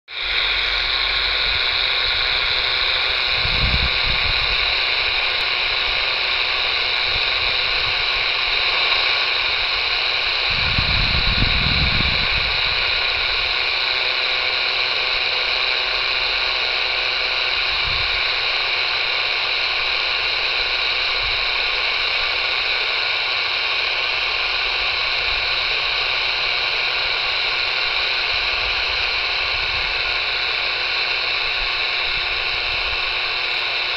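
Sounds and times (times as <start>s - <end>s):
radio static hiss: 0.1s - 33.9s.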